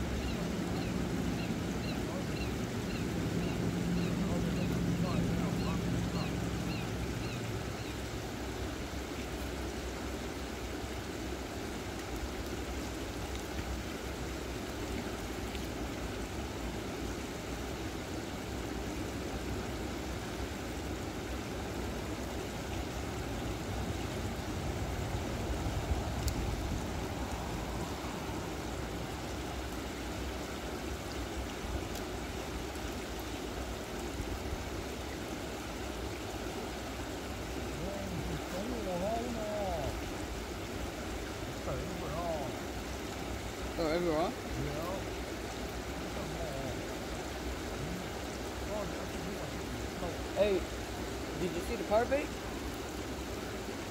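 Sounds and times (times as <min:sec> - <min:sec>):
water rushing through weir: 0:00.0 - 0:53.9.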